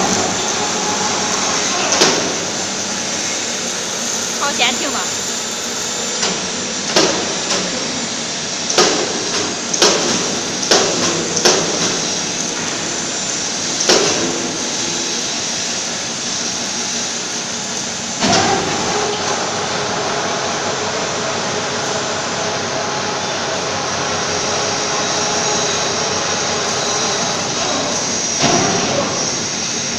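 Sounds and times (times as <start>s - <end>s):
factory machinery noise: 0.0s - 29.9s
machine running with steady tone: 0.0s - 29.9s.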